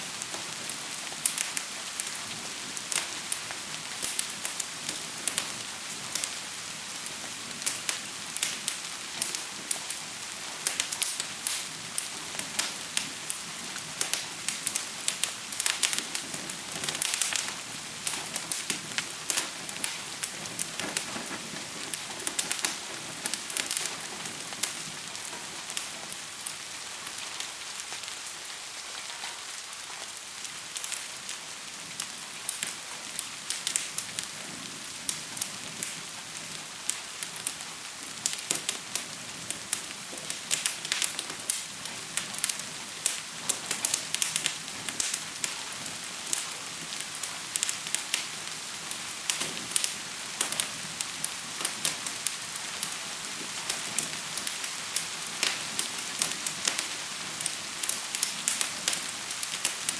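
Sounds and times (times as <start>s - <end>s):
fire crackling and popping: 0.0s - 59.9s
gentle rain hiss: 0.0s - 59.9s.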